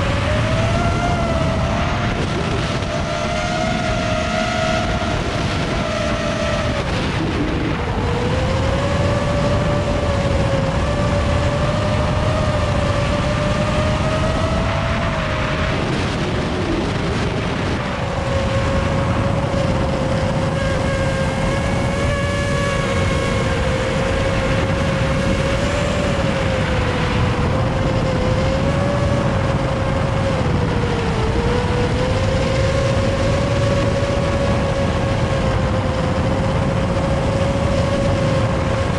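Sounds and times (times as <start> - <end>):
drone motors whining: 0.0 - 38.9
wind noise on microphone: 0.0 - 38.9.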